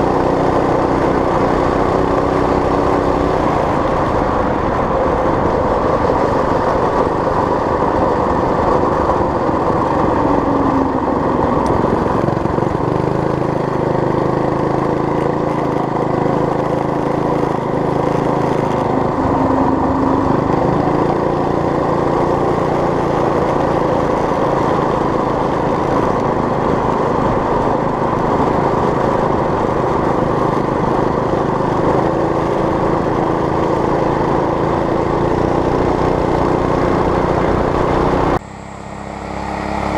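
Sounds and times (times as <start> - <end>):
mini bike small engine running: 0.0 - 39.9.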